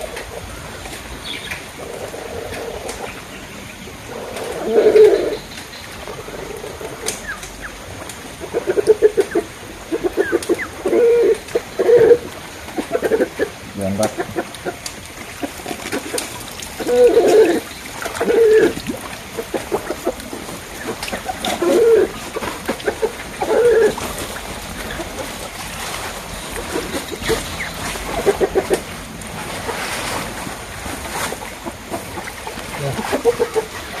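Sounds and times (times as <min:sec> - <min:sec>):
water splashing and sloshing: 0:00.0 - 0:34.0.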